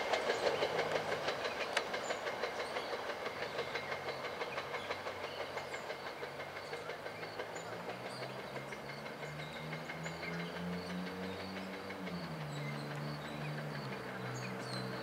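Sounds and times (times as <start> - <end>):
low steady train hum: 0.0 - 15.0
train wheels clicking over rails: 0.0 - 15.0.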